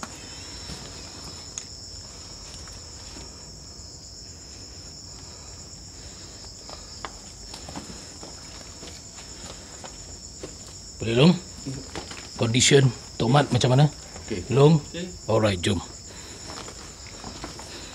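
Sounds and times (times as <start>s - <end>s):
insects trilling: 0.0s - 17.9s.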